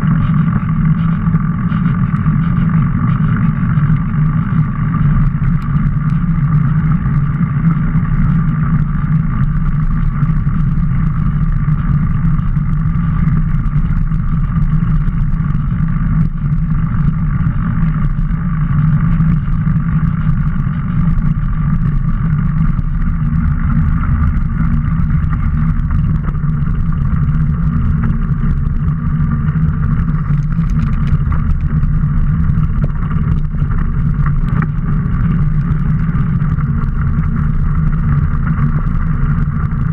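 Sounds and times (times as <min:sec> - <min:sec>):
bike tyres rolling on pavement and dirt: 0:00.0 - 0:39.9
muffled wind rush: 0:00.0 - 0:39.9.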